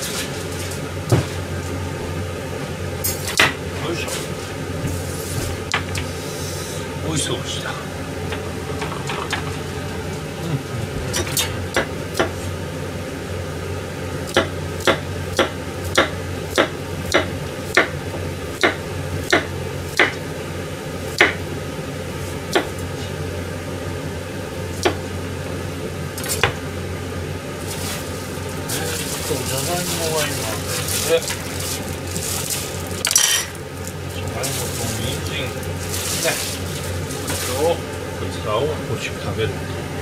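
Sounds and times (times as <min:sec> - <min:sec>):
low kitchen hum: 0:00.0 - 0:40.0.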